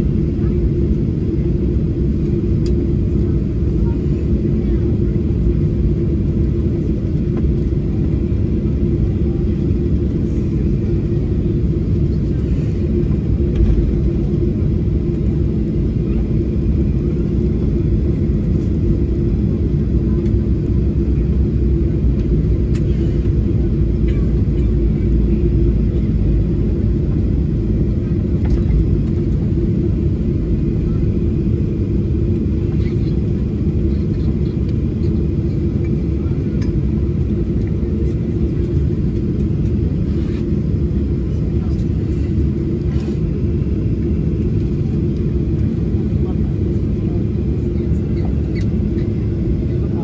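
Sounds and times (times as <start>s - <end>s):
jet engines idling: 0.0s - 50.0s.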